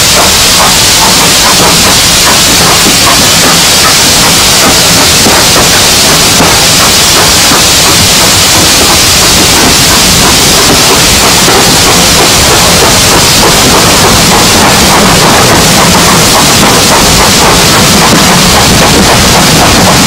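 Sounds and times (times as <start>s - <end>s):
rushing hiss of steam: 0.0s - 20.0s
train wheel noise: 0.0s - 20.0s.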